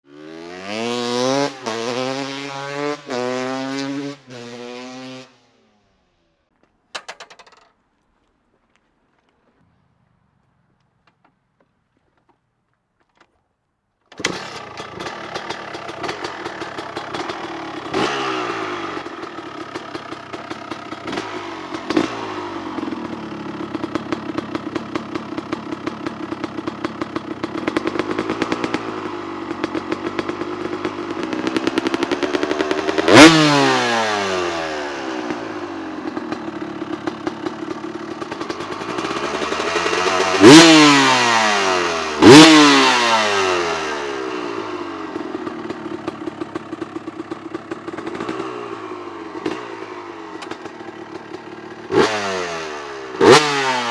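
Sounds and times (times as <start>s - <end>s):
two-stroke engine idling and revving: 0.0s - 5.6s, 14.1s - 53.9s.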